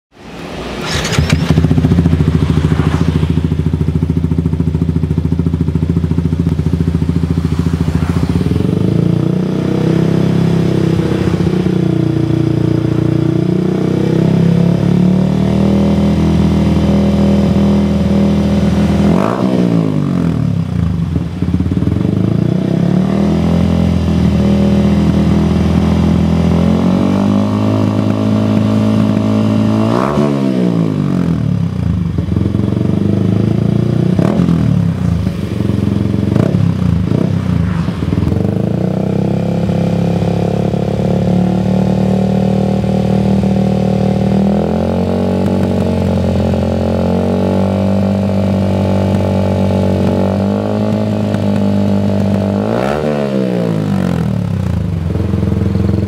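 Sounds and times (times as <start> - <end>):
motorcycle engine revving: 0.4 - 56.0.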